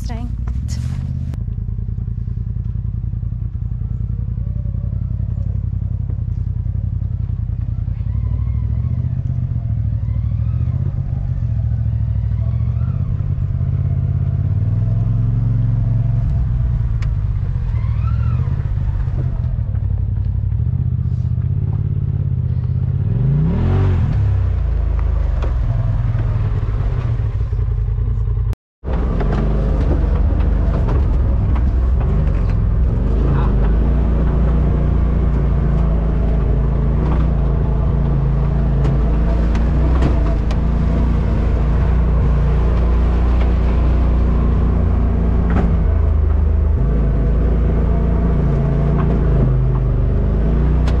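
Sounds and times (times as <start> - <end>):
off-road vehicle engine revving: 0.0 - 51.0.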